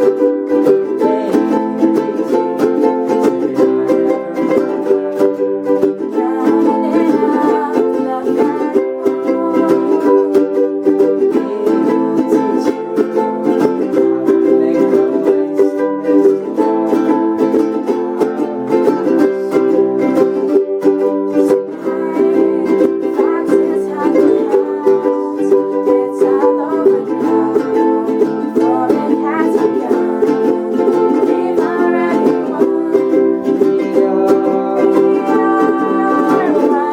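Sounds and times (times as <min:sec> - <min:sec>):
ukuleles strumming chords: 0:00.0 - 0:36.9.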